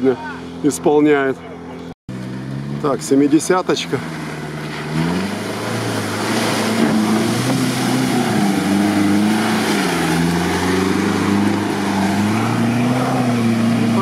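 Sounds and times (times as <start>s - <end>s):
vehicle driving through mud and water: 0.0s - 14.0s
vehicle engine revving: 0.2s - 14.0s.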